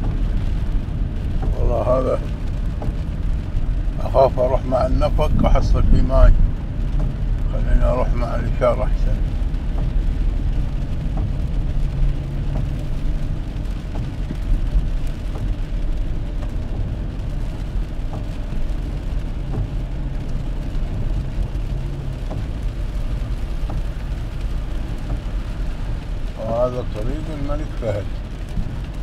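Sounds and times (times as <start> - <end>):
engine and tyres on wet road: 0.0 - 29.0
rain ticking on car: 0.0 - 29.0.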